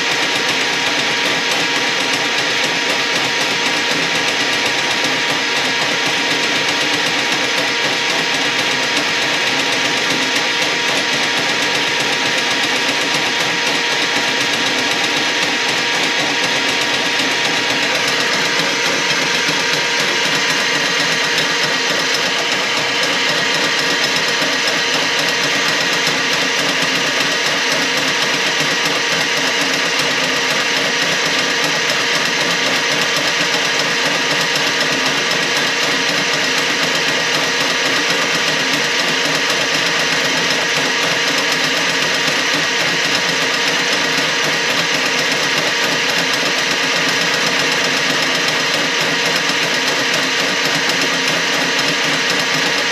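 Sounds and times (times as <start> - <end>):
drain-cleaning machine running: 0.0 - 52.9.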